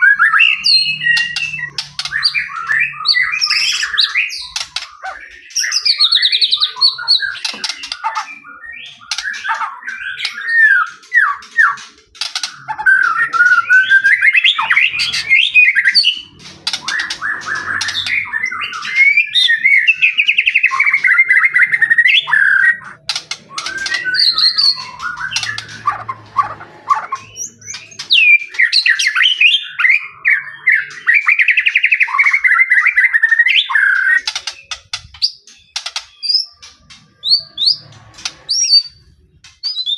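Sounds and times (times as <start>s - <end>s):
bird singing and chattering: 0.0s - 39.9s.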